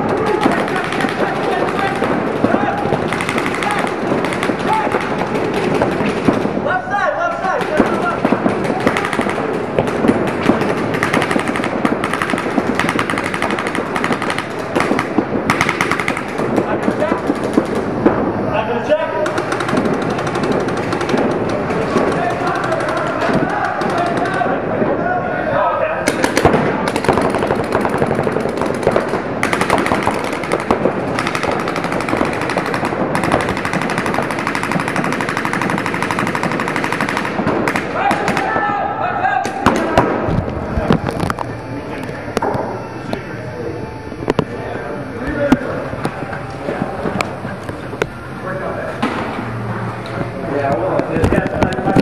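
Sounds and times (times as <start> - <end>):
paintball guns firing rapidly: 0.0 - 24.8, 26.0 - 42.9, 50.5 - 52.0.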